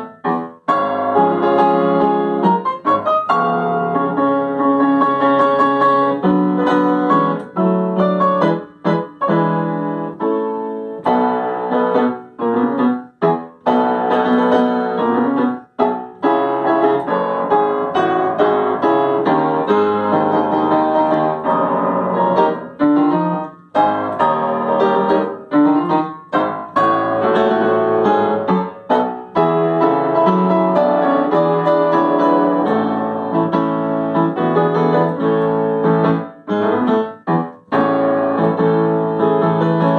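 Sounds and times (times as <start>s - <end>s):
upright piano playing: 0.0s - 39.9s.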